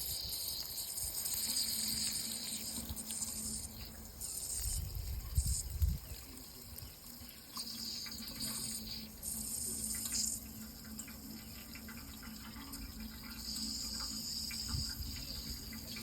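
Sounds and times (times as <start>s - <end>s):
insects calling high-pitched: 0.0s - 16.0s
running water flowing: 0.0s - 16.0s.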